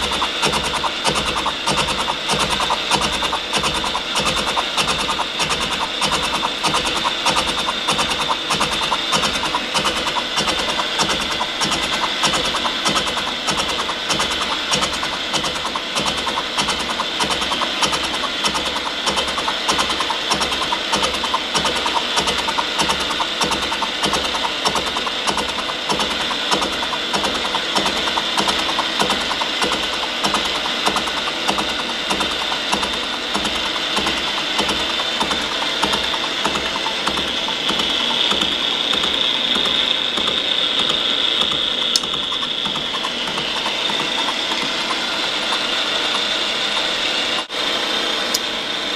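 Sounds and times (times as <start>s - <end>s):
milling cutter chopping metal: 0.0s - 47.5s
milling machine running: 0.0s - 48.9s.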